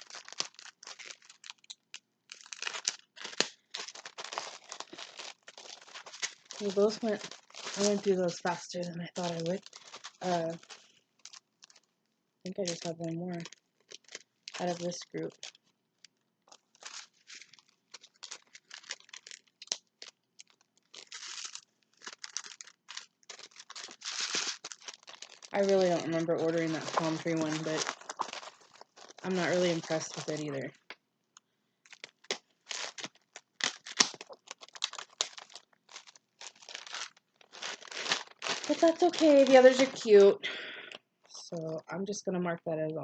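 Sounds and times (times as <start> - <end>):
plastic packaging crinkling: 0.0 - 41.7.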